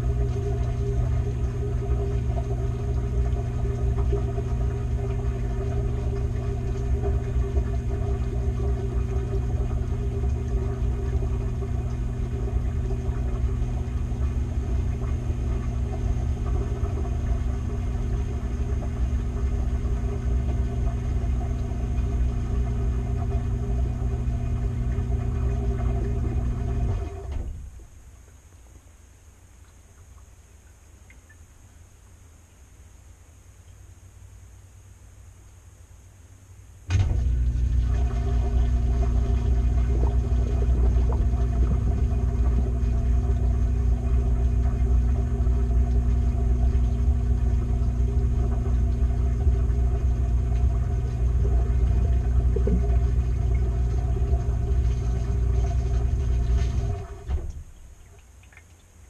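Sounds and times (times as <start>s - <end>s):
washing machine drum spinning: 0.0s - 27.8s, 36.9s - 58.0s.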